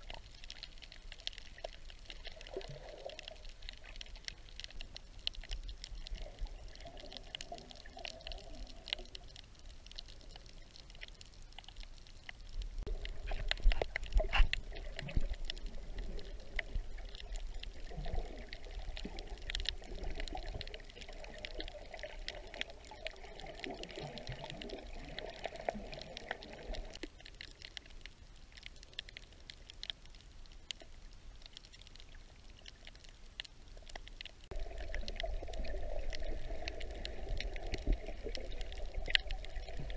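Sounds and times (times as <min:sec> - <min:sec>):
crackling clicks underwater: 0:00.0 - 0:39.9
muffled underwater water movement: 0:00.0 - 0:39.9.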